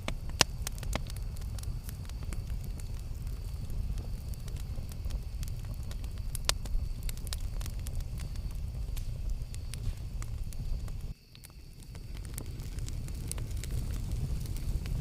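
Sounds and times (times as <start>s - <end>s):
campfire rumble: 0.0s - 15.0s
fire crackles and pops: 0.0s - 15.0s.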